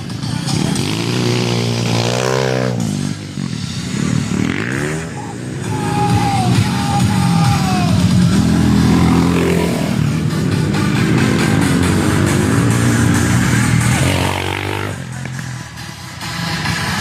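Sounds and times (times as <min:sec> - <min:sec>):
motorcycle engine revving: 0:00.0 - 0:17.0
music playing: 0:00.0 - 0:17.0.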